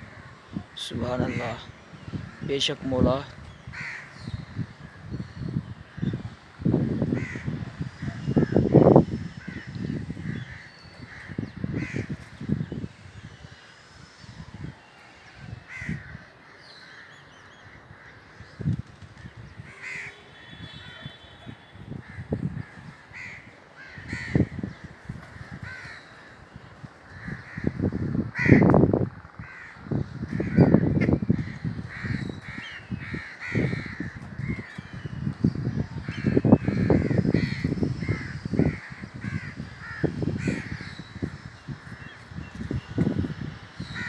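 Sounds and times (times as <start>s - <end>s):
crows cawing: 0.0s - 14.7s, 15.4s - 44.0s.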